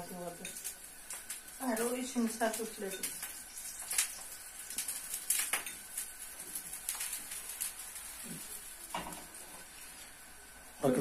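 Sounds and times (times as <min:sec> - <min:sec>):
small crackles: 0:00.0 - 0:10.9
batter sizzling in a frying pan: 0:00.0 - 0:11.0.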